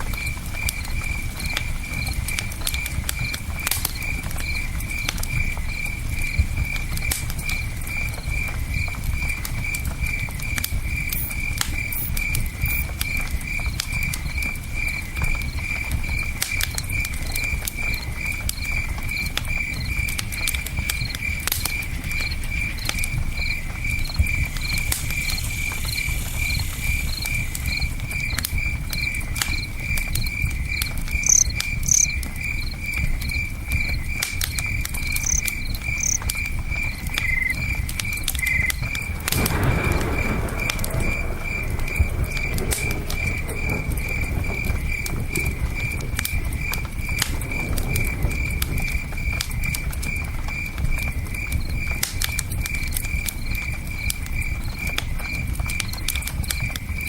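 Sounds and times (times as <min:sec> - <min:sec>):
campfire crackling and popping: 0:00.0 - 0:57.0
cricket chirping: 0:00.0 - 0:57.0.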